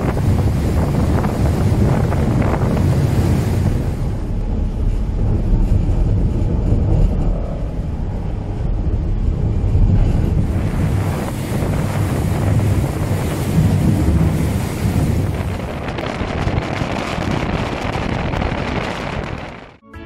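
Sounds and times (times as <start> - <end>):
low ship engine rumble: 0.0 - 19.8
wake churning through sea ice: 0.0 - 19.8
wind buffeting microphone: 0.0 - 19.8.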